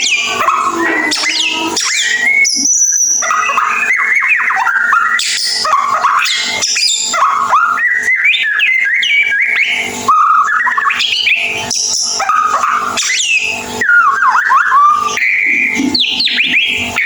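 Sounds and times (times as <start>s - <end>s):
bird singing whistled notes: 0.0s - 17.0s.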